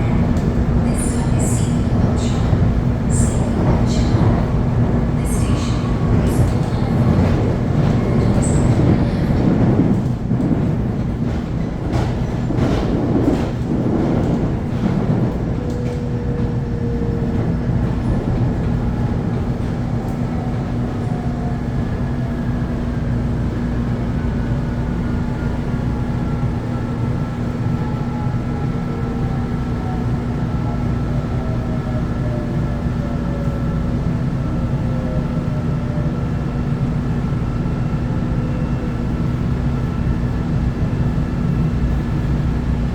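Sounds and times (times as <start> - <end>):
electric train humming: 0.0 - 42.9.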